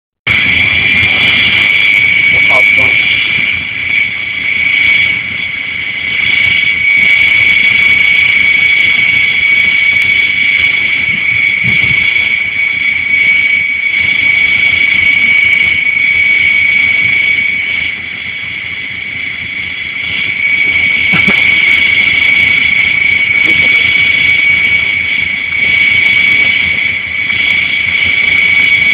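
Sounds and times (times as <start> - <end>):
high-pitched mechanical whine: 0.3 - 28.9.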